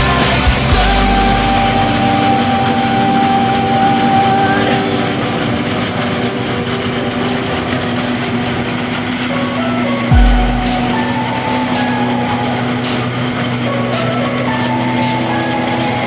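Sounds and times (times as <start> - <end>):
steady high tone: 0.0 - 16.0
tractor and harvester running: 0.0 - 16.0.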